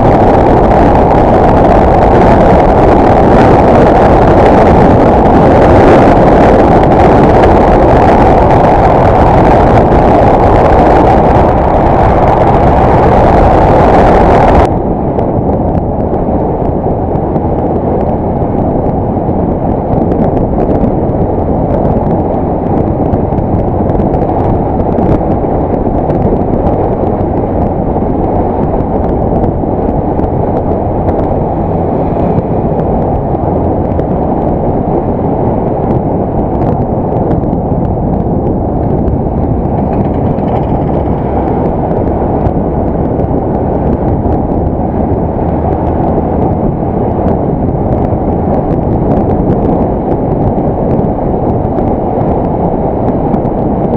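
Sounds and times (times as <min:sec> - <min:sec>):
wind and motorcycle riding noise: 0:00.0 - 0:53.9.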